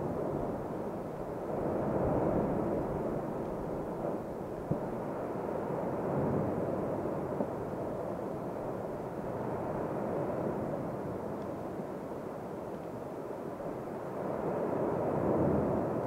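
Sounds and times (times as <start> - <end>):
volcanic eruption roar: 0.0 - 16.0.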